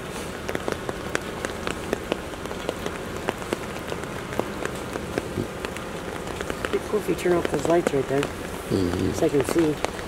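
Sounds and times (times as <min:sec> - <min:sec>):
raindrops ticking close: 0:00.0 - 0:10.0
steady rain: 0:00.0 - 0:10.0.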